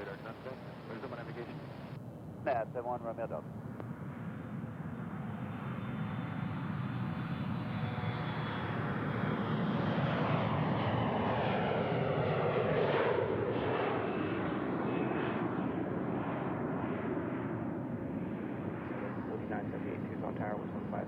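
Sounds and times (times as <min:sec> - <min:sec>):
jet engines rushing past: 0:00.0 - 0:21.0.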